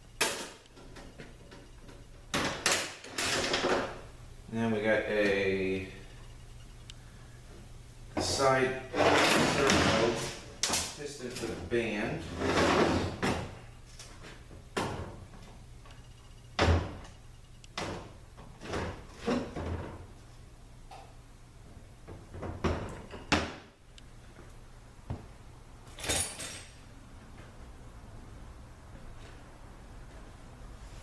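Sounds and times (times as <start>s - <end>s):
steady low hum: 3.8s - 31.0s.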